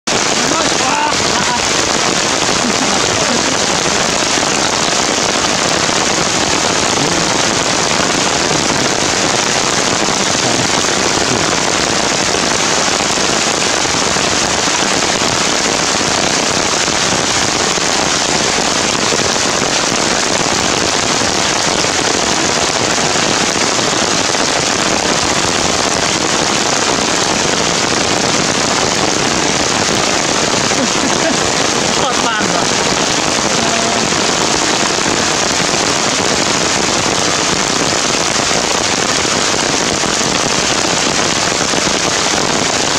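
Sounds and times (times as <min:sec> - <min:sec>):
raindrops hitting surfaces: 0:00.0 - 0:42.9
heavy rain hissing: 0:00.1 - 0:42.9.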